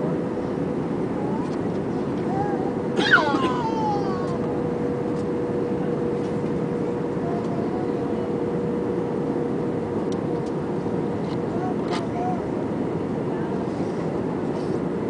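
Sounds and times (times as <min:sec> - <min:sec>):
airplane cabin engine noise: 0:00.0 - 0:15.0
constant mid-pitched hum: 0:00.0 - 0:15.0.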